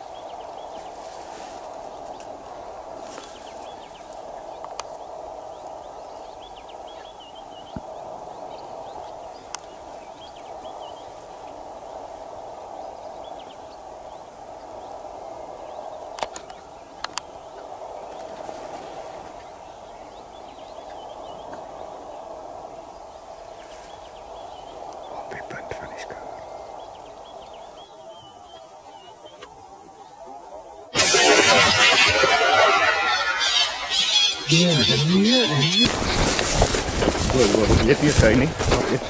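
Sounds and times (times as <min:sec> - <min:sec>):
small birds chirping: 0:00.0 - 0:30.8, 0:33.0 - 0:39.0.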